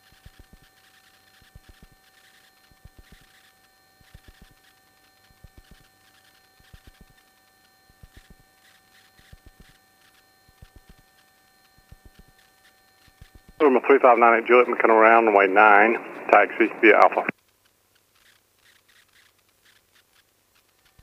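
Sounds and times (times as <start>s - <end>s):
faint electrical hum: 0.0s - 21.0s
steady intercom tones: 0.4s - 17.3s.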